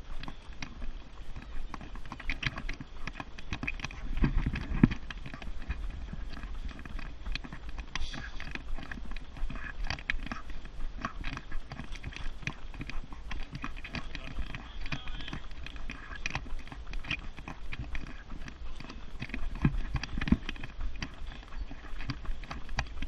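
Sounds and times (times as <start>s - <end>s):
running footsteps on tarmac: 0.0s - 23.0s
stroller rattling: 0.0s - 23.0s.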